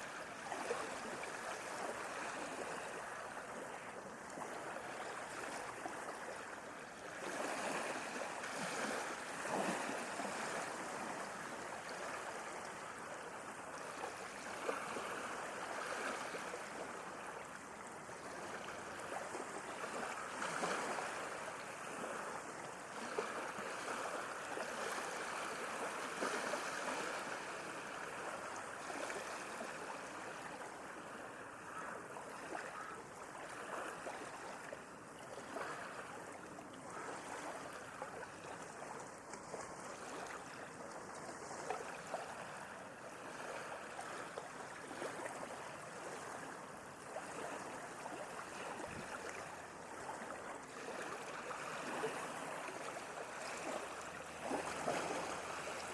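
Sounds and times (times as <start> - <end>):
small water splashes: 0.0 - 55.9.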